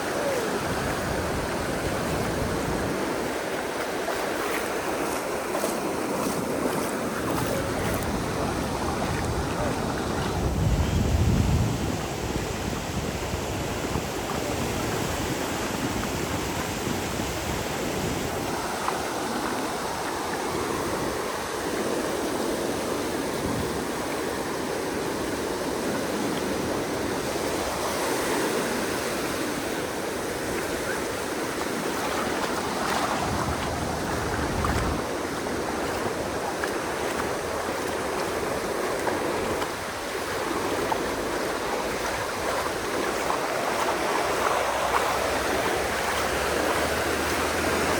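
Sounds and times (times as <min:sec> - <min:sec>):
ocean waves breaking on beach: 0:00.0 - 0:47.9.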